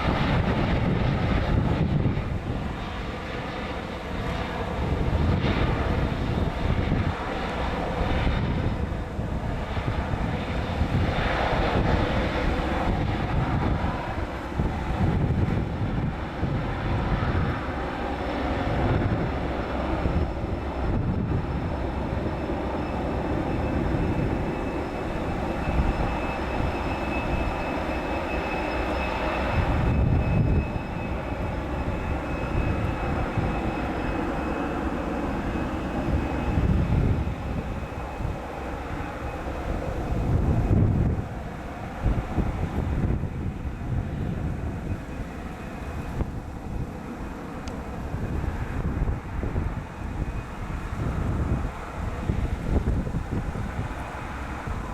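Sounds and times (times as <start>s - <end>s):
airliner engines rumbling: 0.0s - 54.9s
high engine whine: 0.0s - 54.9s.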